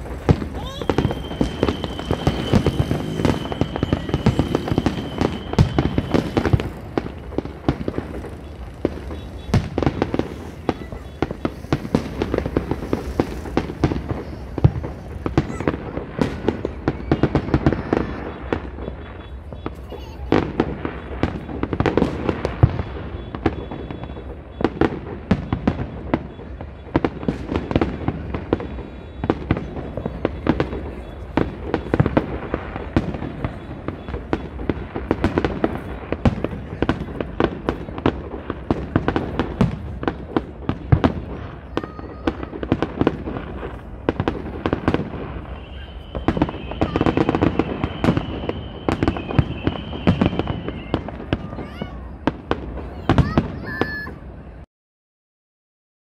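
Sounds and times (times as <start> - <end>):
high firework whistle: 0.0 - 52.2
fireworks bangs and crackles: 0.0 - 54.6.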